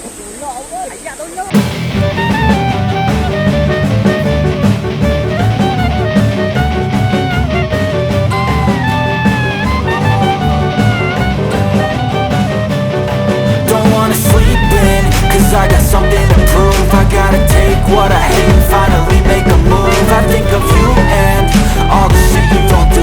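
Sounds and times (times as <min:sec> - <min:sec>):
instrumental music with gliding melody: 0:01.6 - 0:23.0.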